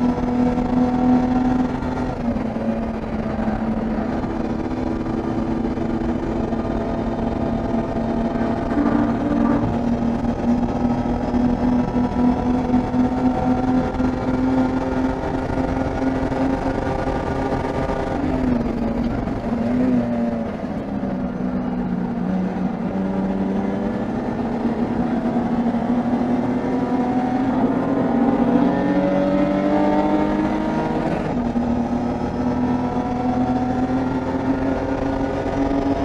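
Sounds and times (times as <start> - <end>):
race car engine accelerating: 0.0 - 36.0.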